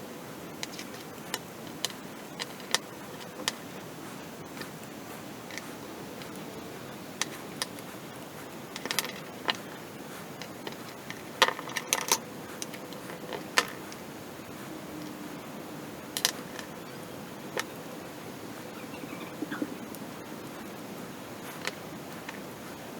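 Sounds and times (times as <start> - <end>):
steady hiss: 0.0 - 22.9.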